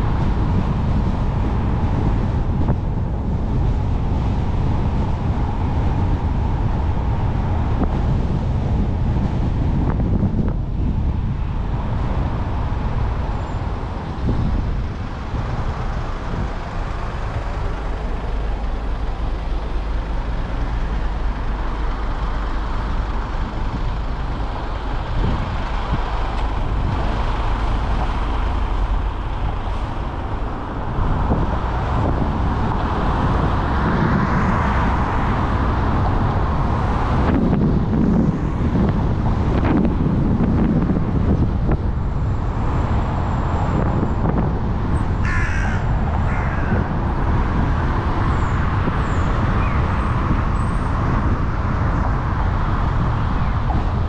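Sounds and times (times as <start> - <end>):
road and tyre rumble: 0.0 - 54.0
wind buffeting microphone: 0.0 - 54.0.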